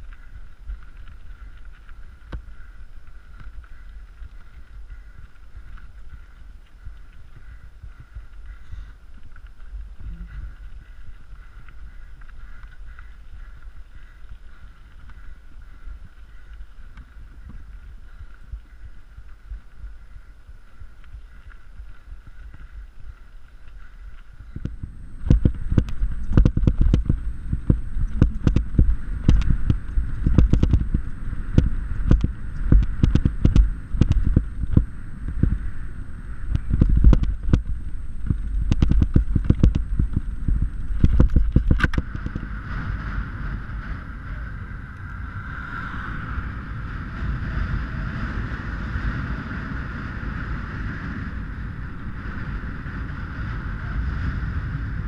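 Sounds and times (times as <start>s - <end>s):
bike rattling and knocking: 0.0s - 44.4s
wind buffeting microphone: 0.0s - 55.0s.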